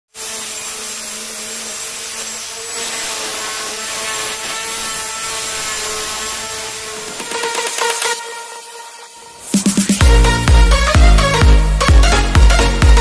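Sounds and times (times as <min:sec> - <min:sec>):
angle grinder sanding wood: 0:00.1 - 0:13.0.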